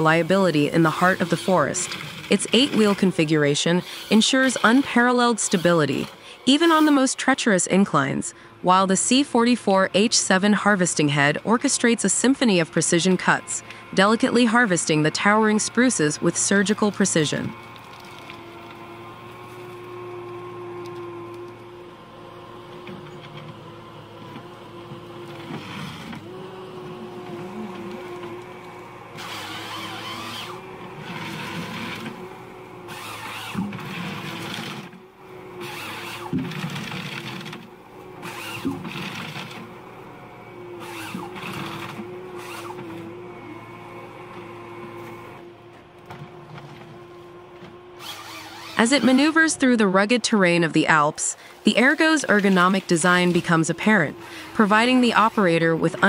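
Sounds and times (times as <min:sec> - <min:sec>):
forest harvester humming: 0:00.0 - 0:56.0.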